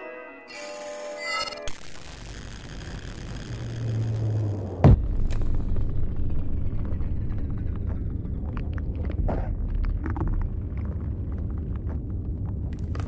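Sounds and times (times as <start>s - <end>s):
crackles and clicks: 0.5s - 13.0s
deep rumble: 2.1s - 13.0s.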